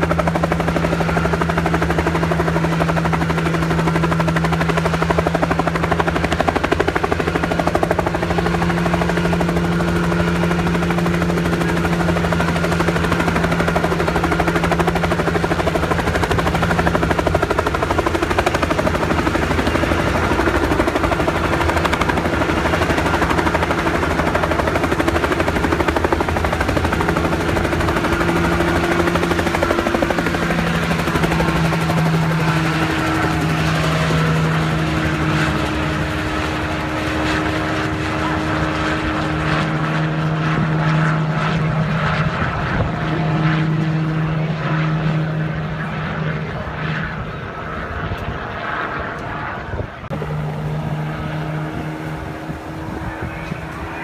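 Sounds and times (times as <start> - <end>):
helicopter engine drone: 0.0 - 54.0
helicopter rotor chop: 0.0 - 54.0.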